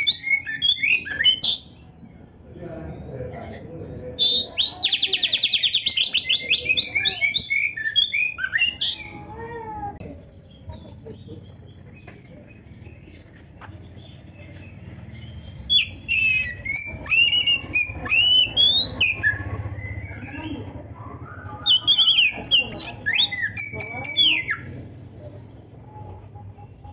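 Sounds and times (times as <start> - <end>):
magpie-robin singing trills: 0.0 - 26.9.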